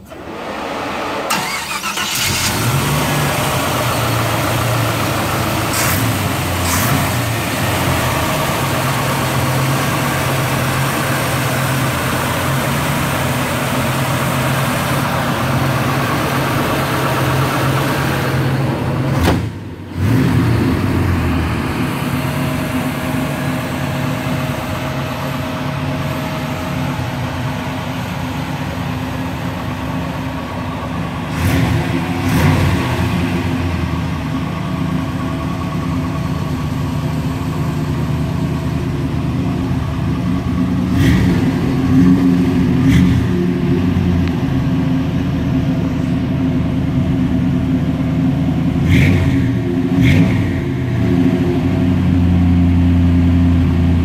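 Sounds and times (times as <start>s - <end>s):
car engine cranking and idling: 0.0s - 54.0s.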